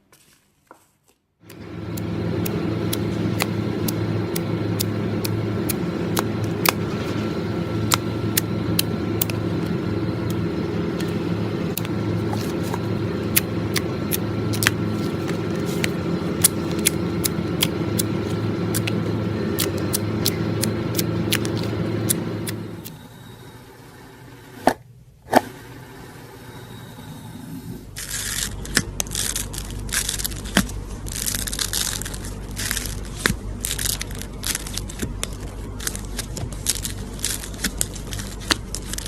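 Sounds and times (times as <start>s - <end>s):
low motor-like hum: 1.4s - 39.0s.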